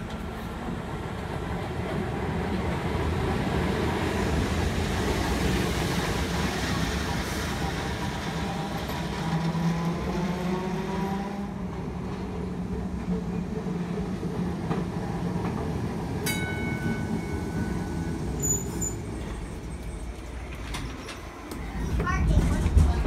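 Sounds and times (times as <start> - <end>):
streetcar rumble and motor whine: 0.0 - 23.0.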